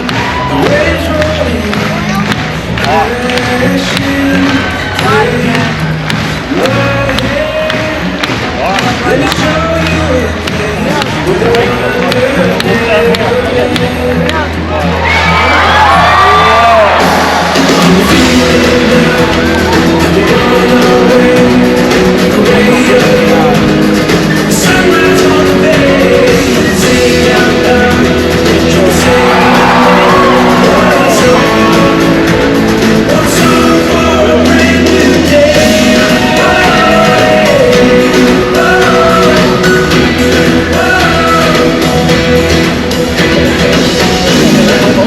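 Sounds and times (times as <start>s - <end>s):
show music with singing: 0.0s - 45.0s.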